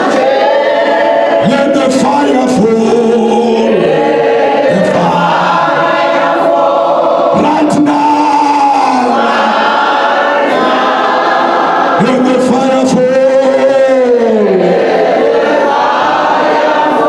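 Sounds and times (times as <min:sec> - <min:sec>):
congregation singing: 0:00.0 - 0:17.0.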